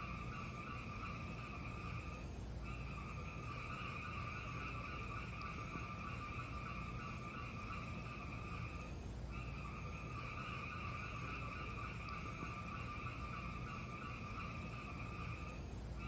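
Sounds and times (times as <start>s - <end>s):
faint fire crackles: 0.0s - 16.0s.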